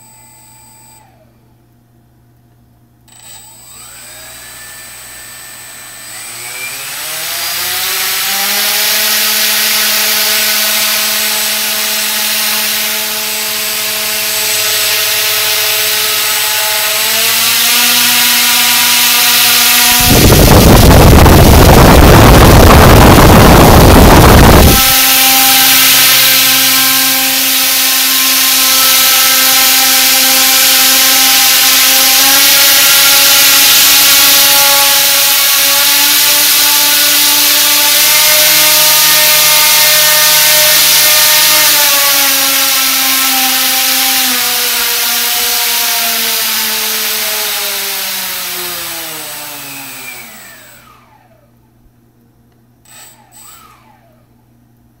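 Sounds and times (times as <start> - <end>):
electric motor whine: 3.1 - 51.5, 52.9 - 54.2.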